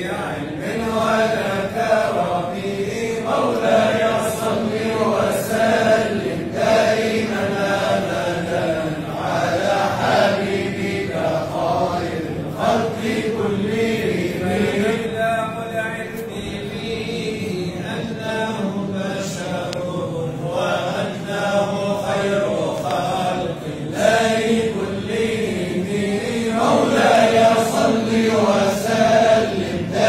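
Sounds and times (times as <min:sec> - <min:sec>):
men chanting devotional song: 0:00.0 - 0:30.0.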